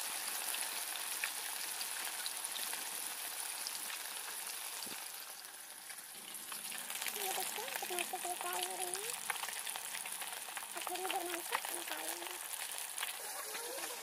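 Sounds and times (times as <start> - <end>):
fish frying in hot oil: 0.0 - 14.0
small crackles: 0.1 - 14.0.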